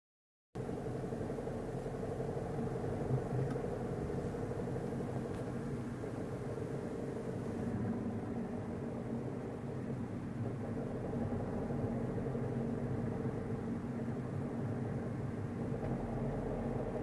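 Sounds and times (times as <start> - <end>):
car engine drone from inside cabin: 0.6 - 17.0
road rumble: 0.6 - 17.0.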